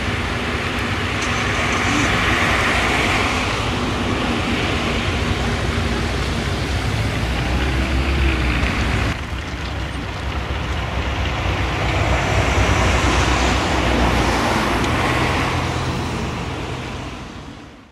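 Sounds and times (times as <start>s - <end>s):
propeller engines droning: 0.0s - 17.9s.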